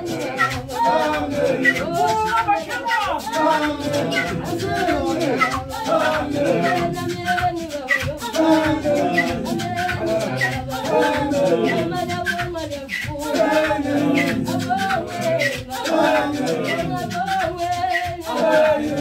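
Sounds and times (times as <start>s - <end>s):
men singing together: 0.0s - 19.0s
sharp percussion beat: 0.0s - 19.0s.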